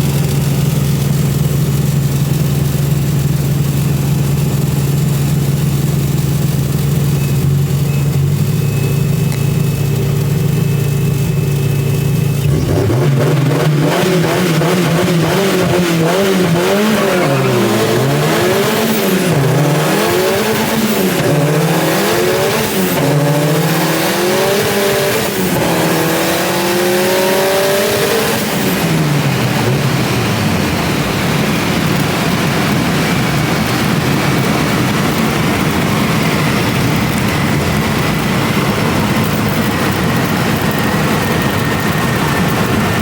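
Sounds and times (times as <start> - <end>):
van engine revving: 0.0 - 43.0.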